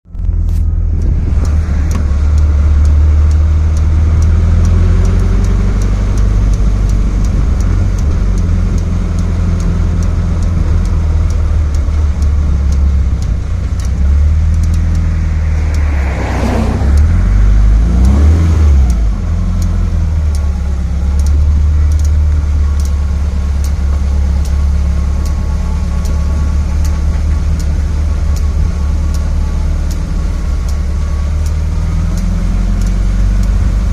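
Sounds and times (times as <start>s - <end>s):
car engine humming: 0.0s - 33.9s
light clicking: 0.2s - 33.9s.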